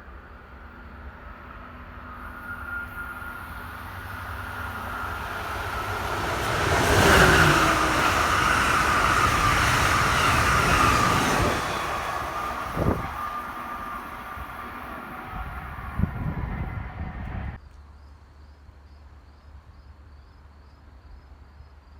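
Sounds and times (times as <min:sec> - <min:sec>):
passenger train passing with whine: 0:00.0 - 0:17.6.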